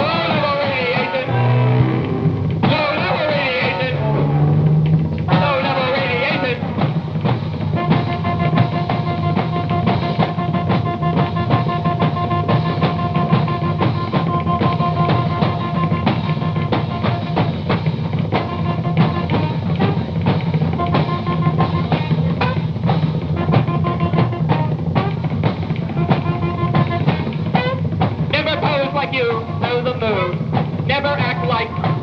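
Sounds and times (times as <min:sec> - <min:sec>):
busy dense drumming: 0:00.0 - 0:32.0
punk rock band instrumental: 0:00.0 - 0:32.0.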